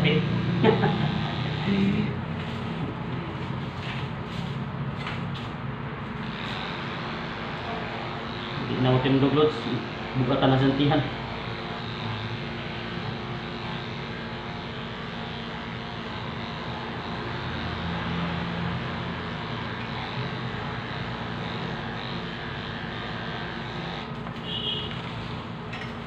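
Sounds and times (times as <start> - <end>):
electric clippers buzzing: 0.0 - 26.0.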